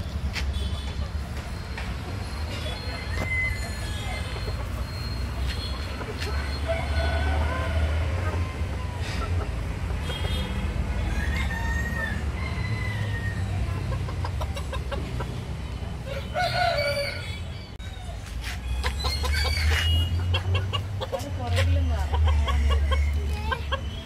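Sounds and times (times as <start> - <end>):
chickens clucking and calling: 2.4 - 24.0.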